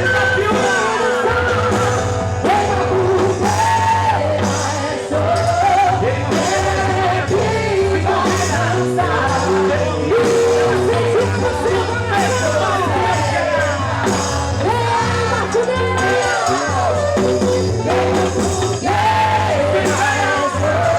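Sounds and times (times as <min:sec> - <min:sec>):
person singing: 0:00.0 - 0:20.9
rhythmic musical accompaniment: 0:00.0 - 0:20.9.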